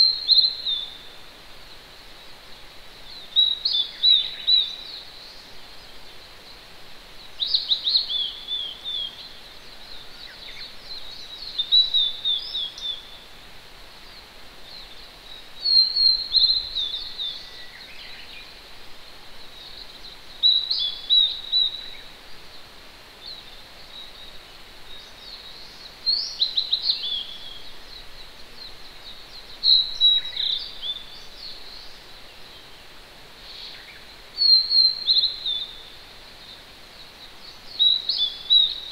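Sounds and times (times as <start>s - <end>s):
distant stream hissing: 0.0s - 38.9s
songbird singing: 0.0s - 38.9s.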